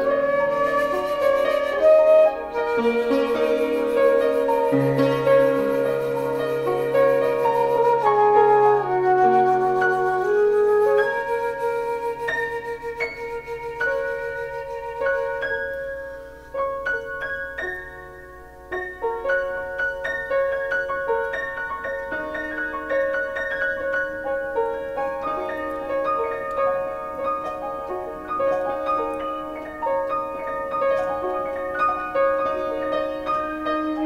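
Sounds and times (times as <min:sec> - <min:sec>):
soft slow piano music: 0:00.0 - 0:34.0.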